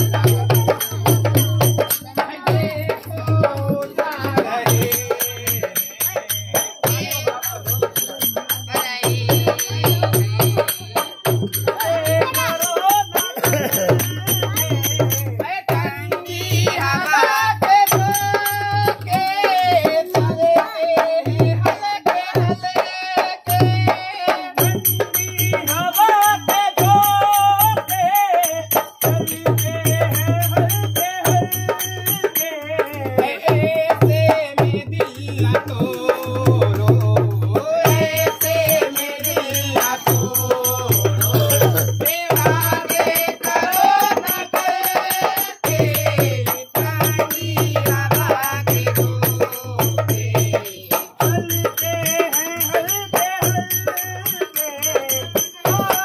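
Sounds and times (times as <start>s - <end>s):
folk song with singing: 0.0s - 56.0s
pulsing drum beat: 0.0s - 56.0s.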